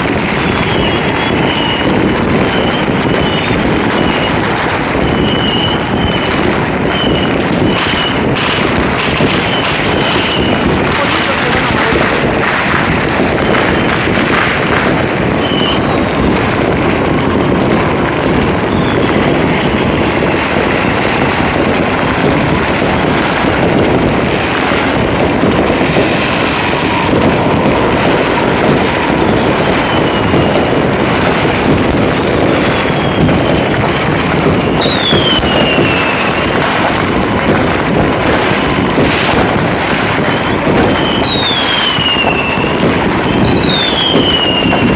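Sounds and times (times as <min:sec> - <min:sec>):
fireworks bangs and crackling: 0:00.0 - 0:44.9
whistling rockets: 0:00.0 - 0:44.9.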